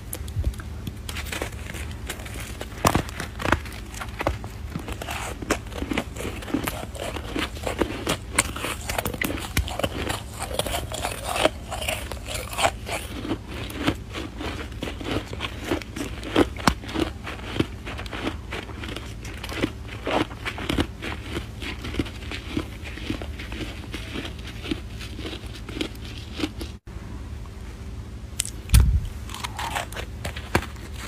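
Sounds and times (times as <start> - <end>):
snow being chewed: 1.0 - 26.8, 29.3 - 31.0.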